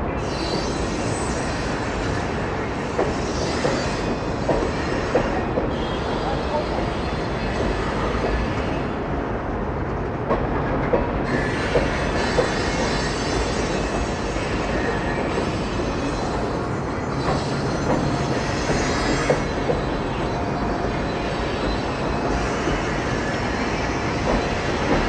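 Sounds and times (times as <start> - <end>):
freight train rumbling over bridge: 0.0 - 25.0.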